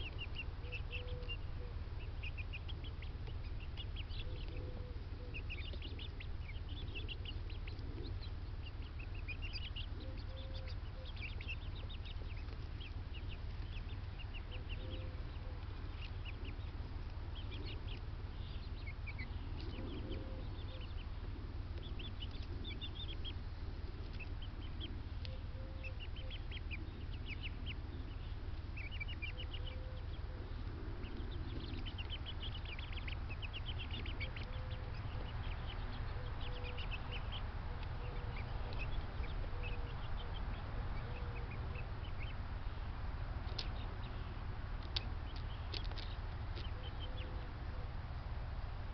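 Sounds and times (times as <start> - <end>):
lower poultry calls: 0.0 - 48.9
steady low hum: 0.0 - 48.9.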